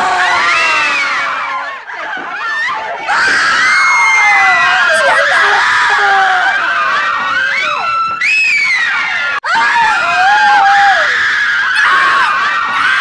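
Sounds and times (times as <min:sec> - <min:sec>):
crowd of young people screaming: 0:00.0 - 0:13.0.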